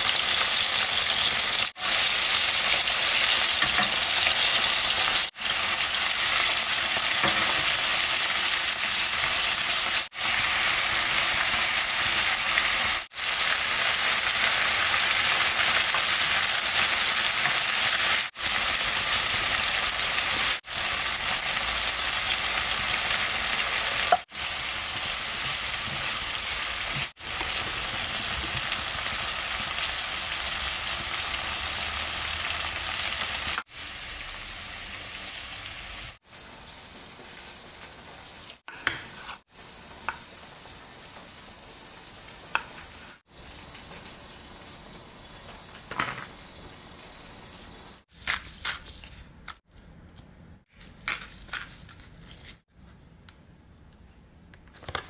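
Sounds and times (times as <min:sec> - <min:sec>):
food sizzling in a frying pan: 0:00.0 - 0:48.1.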